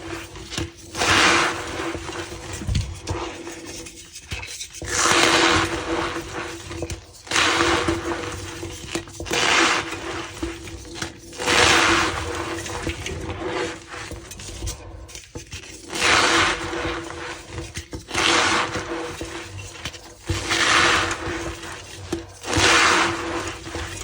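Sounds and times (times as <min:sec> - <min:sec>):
chalk crunching and squeaking: 0:00.0 - 0:24.0.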